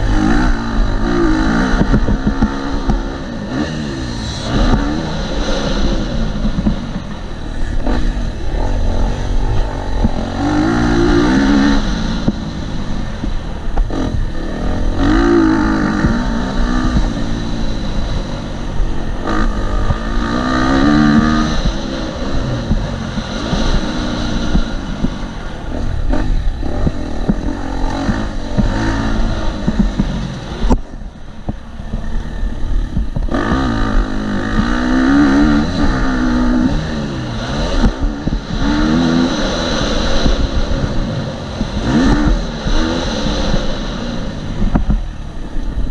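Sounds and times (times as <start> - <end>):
low rumble: 0.0 - 45.9
motocross engine revving: 0.0 - 45.9.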